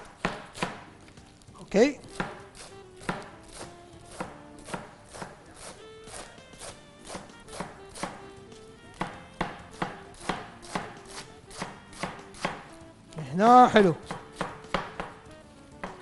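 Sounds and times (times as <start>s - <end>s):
knife chopping lettuce: 0.0s - 0.9s, 2.0s - 12.8s, 13.9s - 16.0s
faint background music: 0.0s - 16.0s.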